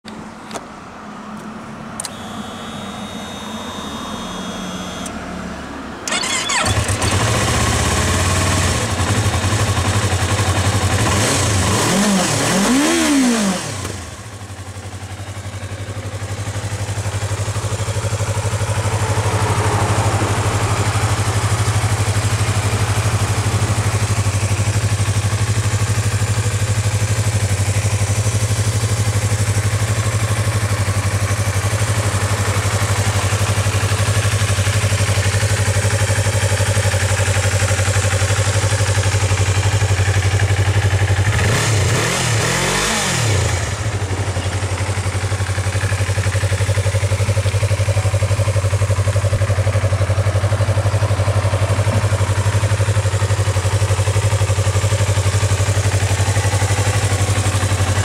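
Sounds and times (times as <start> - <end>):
motorcycle engine idling and revving: 0.1 - 58.0.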